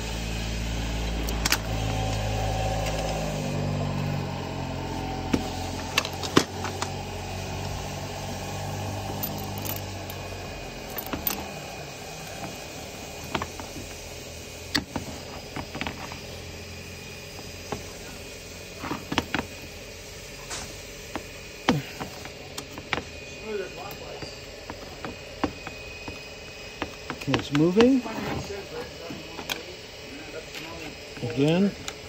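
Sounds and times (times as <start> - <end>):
low steady motor hum: 0.0 - 32.0.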